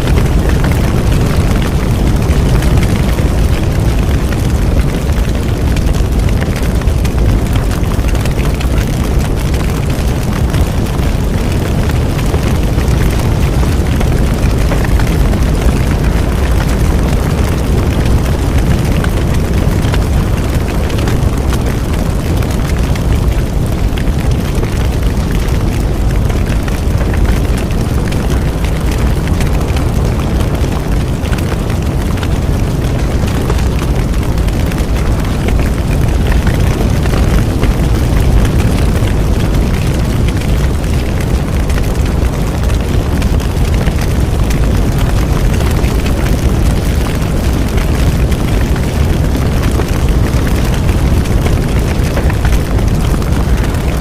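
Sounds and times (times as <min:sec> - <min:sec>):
bonfire rumbling: 0:00.0 - 0:54.0
fire crackling and popping: 0:00.0 - 0:54.0.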